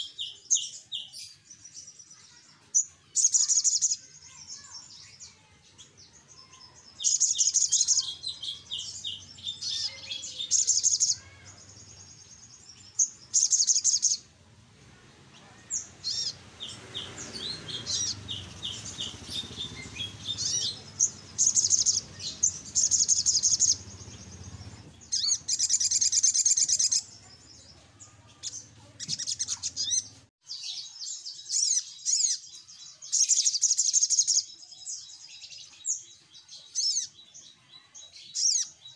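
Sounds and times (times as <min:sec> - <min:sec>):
bird twittering trills: 0:00.0 - 0:14.4, 0:15.4 - 0:38.9.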